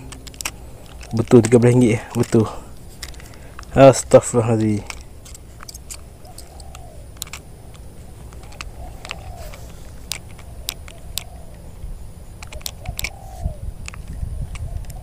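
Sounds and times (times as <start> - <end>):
bird calling softly: 0.0 - 15.0.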